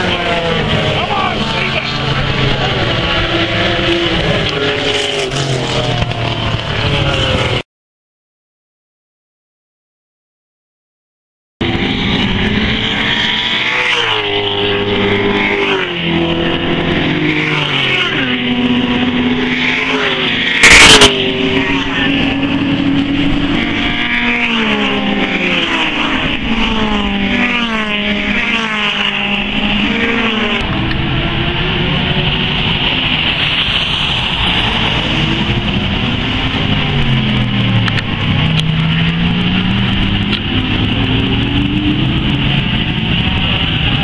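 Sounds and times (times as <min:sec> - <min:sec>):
racing car engines revving: 0:00.0 - 0:07.6, 0:11.6 - 0:44.0.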